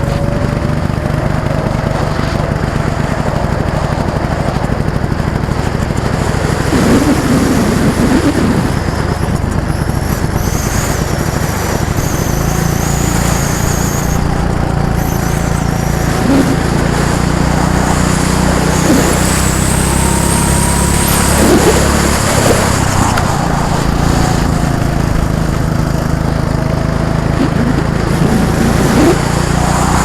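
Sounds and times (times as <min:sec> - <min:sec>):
go-kart engines whining: 0:00.0 - 0:30.0.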